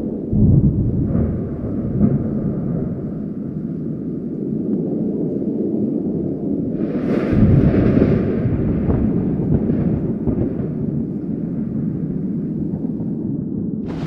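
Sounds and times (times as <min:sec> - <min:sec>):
distant thunder: 0:00.0 - 0:05.1, 0:06.2 - 0:14.0
thunderclap crackle: 0:00.0 - 0:14.0
wind rumble: 0:00.0 - 0:14.0.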